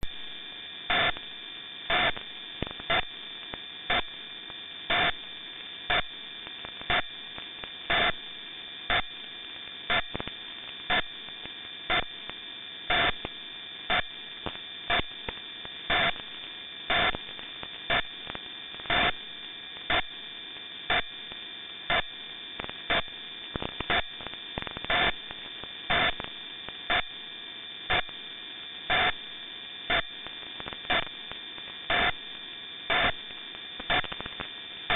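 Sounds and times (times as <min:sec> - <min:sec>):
radio hum and hiss: 0:00.0 - 0:34.9.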